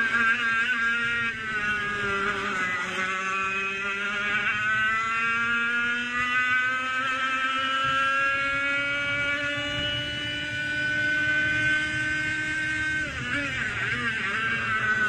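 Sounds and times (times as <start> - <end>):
two-stroke kart engine accelerating: 0.0 - 15.0.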